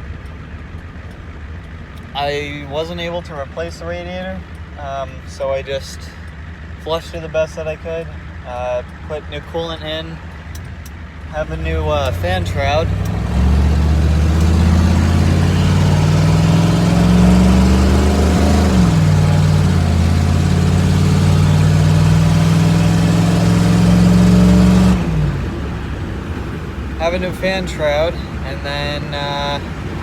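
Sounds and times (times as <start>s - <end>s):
truck engine accelerating: 0.0s - 30.0s.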